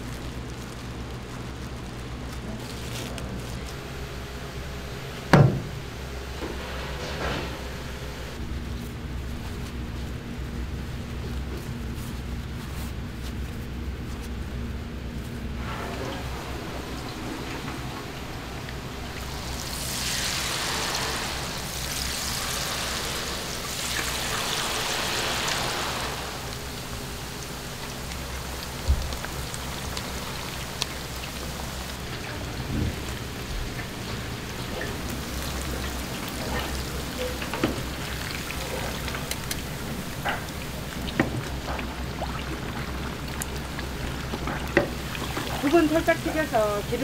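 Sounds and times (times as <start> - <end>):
leaves frying in hot oil: 0.0 - 47.0.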